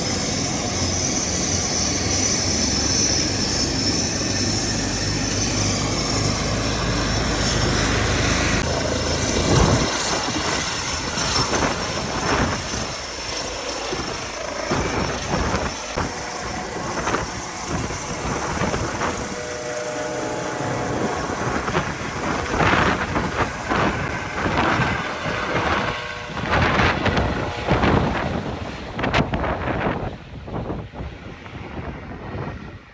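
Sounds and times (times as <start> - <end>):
helicopter turbine and rotor: 0.0 - 32.9
wind buffeting microphone: 0.0 - 32.9.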